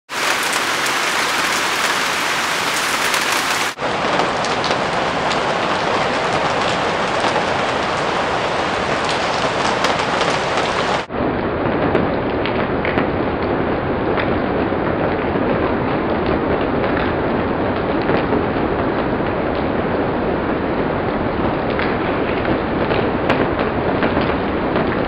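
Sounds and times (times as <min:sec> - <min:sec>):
rain drops on wooden railing: 0:00.1 - 0:11.1, 0:11.9 - 0:25.0.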